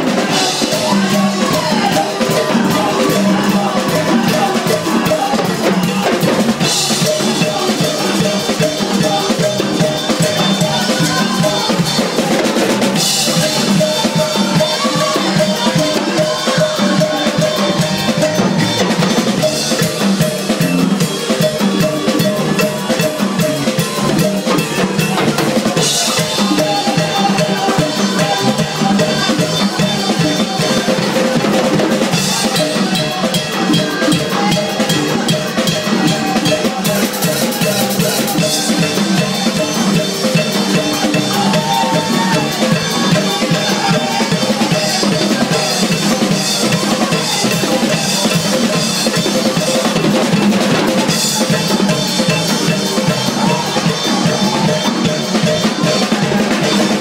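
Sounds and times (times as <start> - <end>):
congas and timbales: 0.0 - 57.0
drum kit beat: 0.0 - 57.0
live band playing worship music: 0.0 - 57.0.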